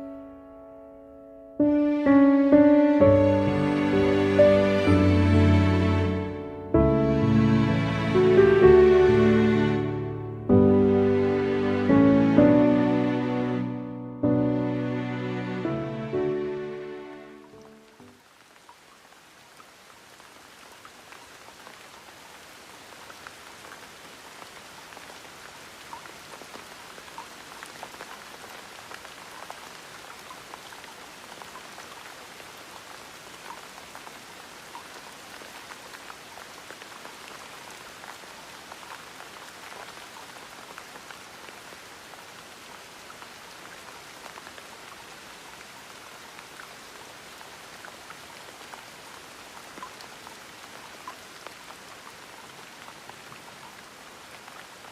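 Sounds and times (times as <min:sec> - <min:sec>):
gentle rain with drops: 0:00.0 - 0:54.9.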